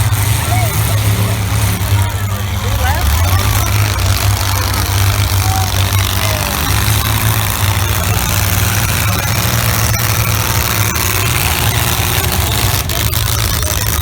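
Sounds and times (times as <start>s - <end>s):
broad noise: 0.0s - 14.0s
car engines droning: 0.0s - 14.0s.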